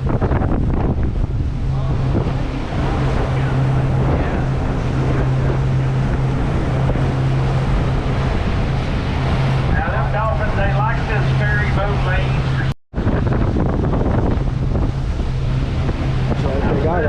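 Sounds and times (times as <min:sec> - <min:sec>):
boat engine humming: 0:00.0 - 0:17.0
water washing: 0:00.0 - 0:17.0
wind noise on microphone: 0:00.0 - 0:17.0.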